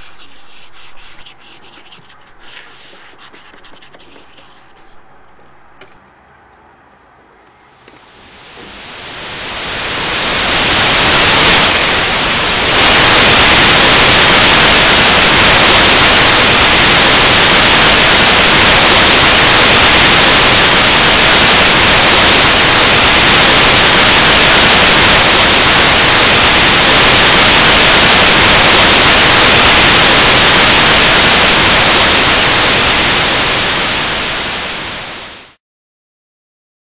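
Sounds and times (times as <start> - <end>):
harsh static hiss: 0.0 - 6.1, 7.6 - 35.6.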